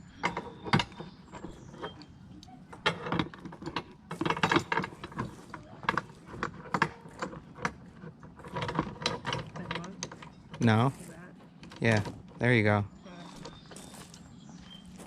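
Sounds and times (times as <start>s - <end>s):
metal chain clinking: 0.0s - 12.2s.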